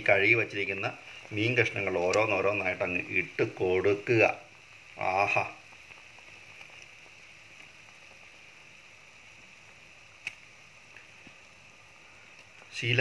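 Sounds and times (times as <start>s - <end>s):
curry bubbling in a pan: 0.0s - 13.0s.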